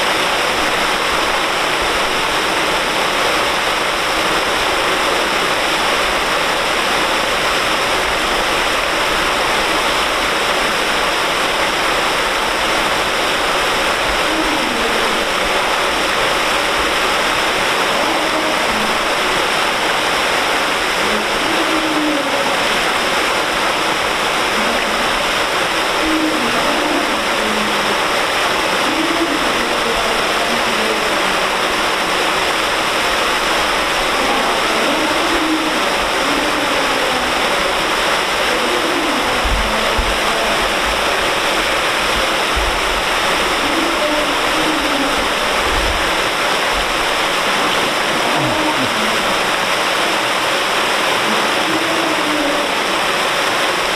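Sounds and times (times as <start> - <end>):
water pouring and splashing: 0.0 - 53.9.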